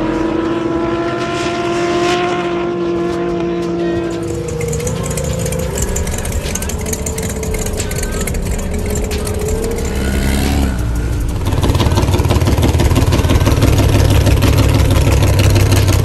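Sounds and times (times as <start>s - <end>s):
racing powerboat engines: 0.0s - 16.0s.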